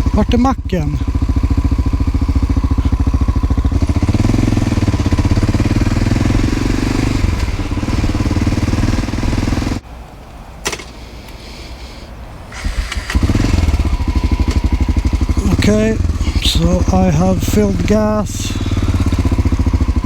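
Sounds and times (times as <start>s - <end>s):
motorcycle engine running: 0.0s - 9.8s, 12.5s - 20.0s.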